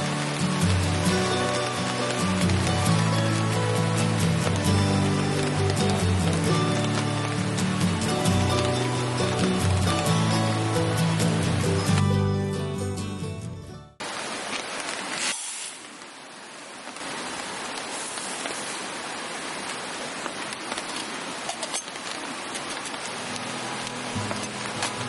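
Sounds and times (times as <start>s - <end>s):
steady rain falling: 0.0s - 13.4s, 14.0s - 25.0s.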